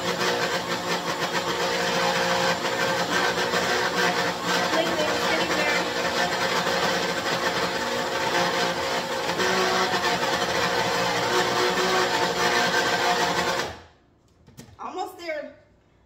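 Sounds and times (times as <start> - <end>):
blender motor whirring: 0.0 - 13.9.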